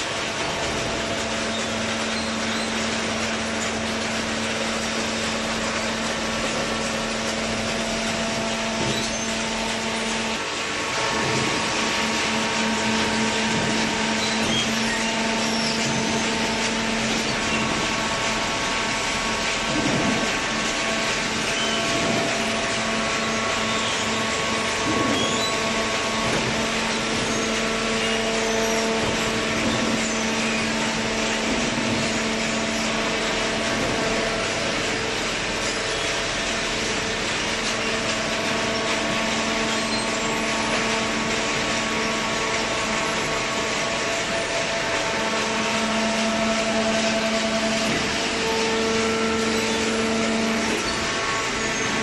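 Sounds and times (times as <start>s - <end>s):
industrial machinery humming: 0.0s - 52.0s.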